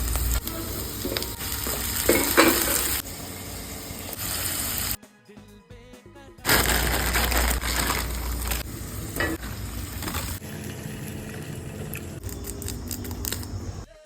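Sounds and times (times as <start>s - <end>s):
food sizzling in a pan: 0.0s - 5.0s, 6.5s - 13.6s.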